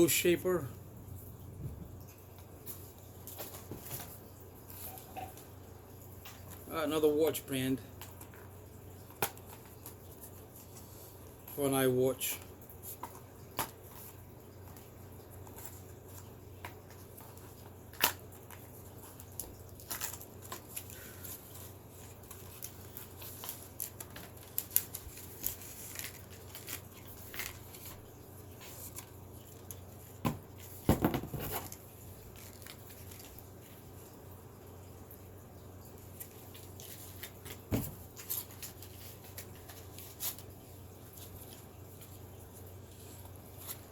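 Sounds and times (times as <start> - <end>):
plastic packaging rustling and tearing: 2.6 - 34.1, 35.8 - 43.9.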